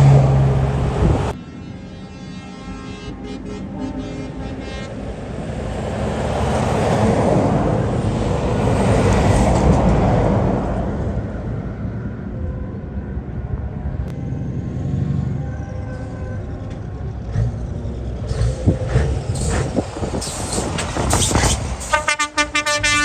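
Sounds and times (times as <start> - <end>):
truck driving past: 0.0 - 23.0.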